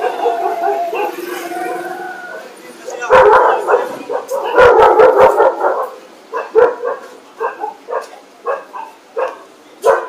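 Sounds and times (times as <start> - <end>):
dog barking loudly: 0.0 - 2.0, 3.0 - 10.0.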